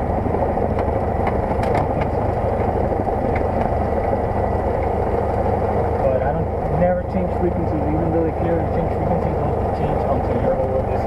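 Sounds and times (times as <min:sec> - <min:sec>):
propeller plane engine rumble: 0:00.0 - 0:11.0.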